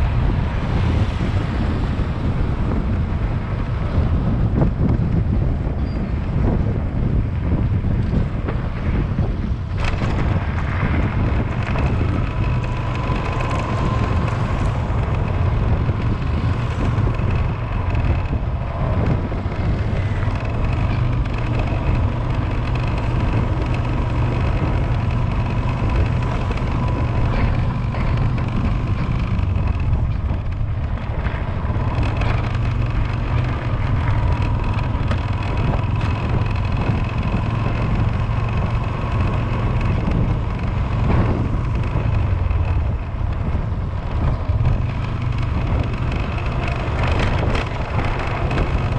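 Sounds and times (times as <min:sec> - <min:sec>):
faint vehicle whine: 0:00.0 - 0:48.9
wind rumble on microphone: 0:00.0 - 0:48.9.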